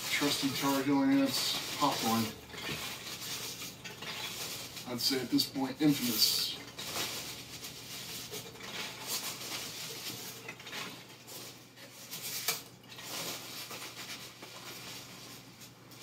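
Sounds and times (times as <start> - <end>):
packing peanuts rustling and squeaking: 0.0 - 16.0.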